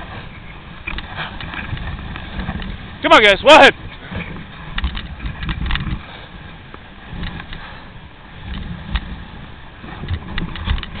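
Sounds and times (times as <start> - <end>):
low rumbling bumps: 0.0 - 11.0
sled runners scraping on snow: 0.0 - 11.0.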